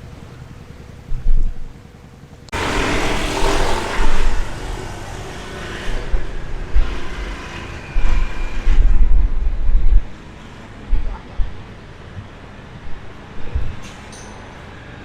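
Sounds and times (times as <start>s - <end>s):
wind buffeting microphone: 0.0s - 1.8s, 2.5s - 15.0s
motor vehicle running: 0.0s - 15.0s.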